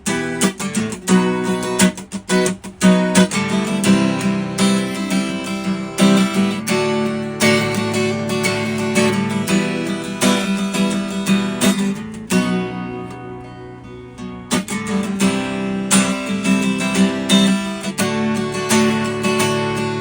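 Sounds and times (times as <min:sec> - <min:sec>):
guitar strummed in chords: 0:00.0 - 0:20.0.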